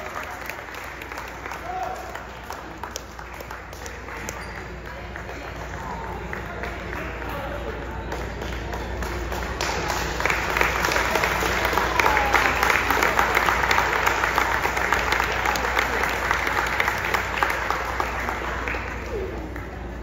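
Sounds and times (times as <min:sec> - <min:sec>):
spectators applauding: 0:00.0 - 0:20.0.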